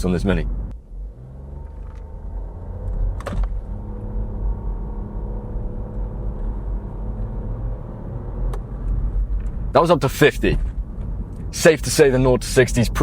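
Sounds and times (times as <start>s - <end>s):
car engine accelerating: 0.0s - 13.0s
road rumble: 0.0s - 13.0s.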